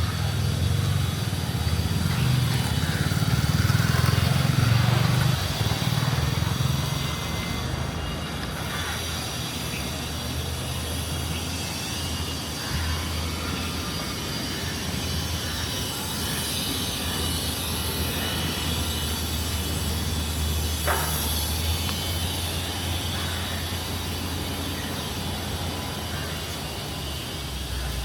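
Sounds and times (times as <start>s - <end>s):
distant traffic rumble: 0.0s - 28.0s
outdoor noise: 0.0s - 28.0s.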